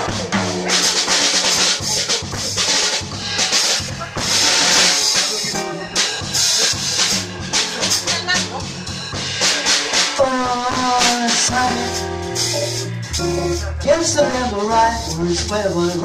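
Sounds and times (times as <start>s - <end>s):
snare and cymbal hits: 0.0s - 15.6s
guitar: 0.0s - 16.0s
jazz organ: 0.0s - 16.0s.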